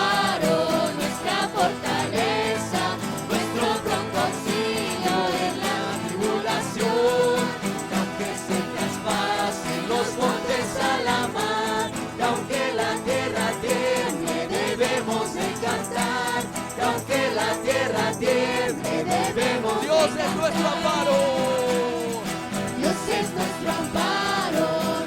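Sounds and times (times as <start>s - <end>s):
voices singing worship song: 0.0s - 25.0s.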